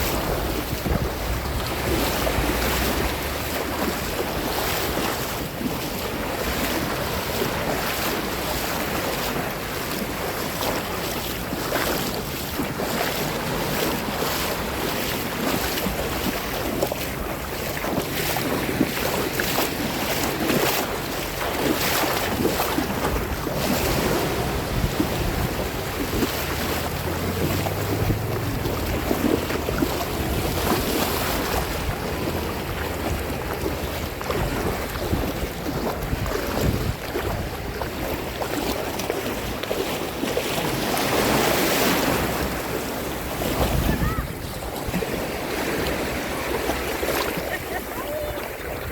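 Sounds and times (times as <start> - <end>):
sea water splashing and lapping: 0.0 - 48.9
wind rumbling on microphone: 0.0 - 48.9.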